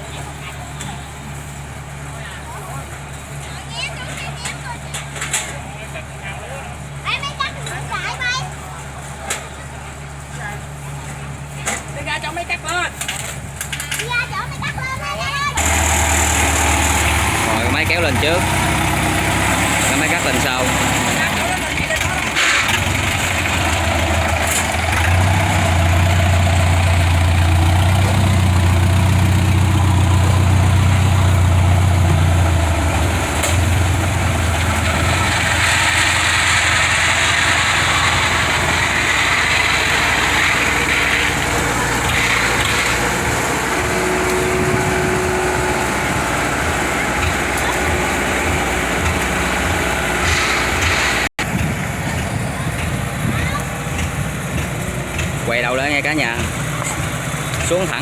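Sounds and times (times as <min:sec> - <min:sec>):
diesel engines droning: 0:00.0 - 0:58.0.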